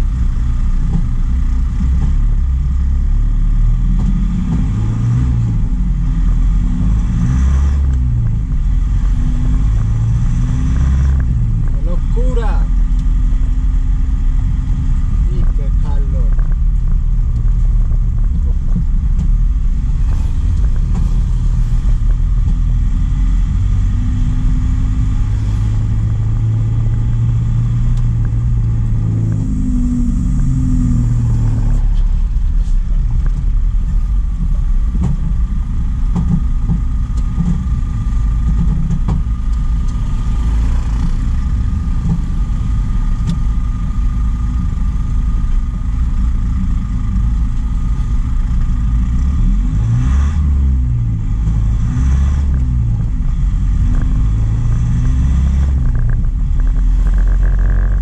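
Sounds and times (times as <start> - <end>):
truck engine driving: 0.0 - 58.0.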